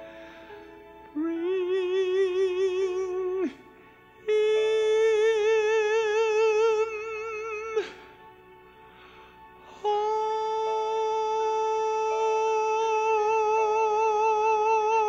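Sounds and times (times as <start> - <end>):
long held notes with vibrato: 0.0 - 15.0.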